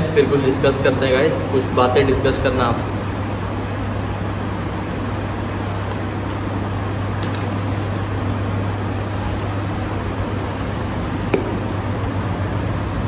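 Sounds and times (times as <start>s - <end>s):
fan rushing noise: 0.0s - 13.0s
low machine hum: 0.0s - 13.0s.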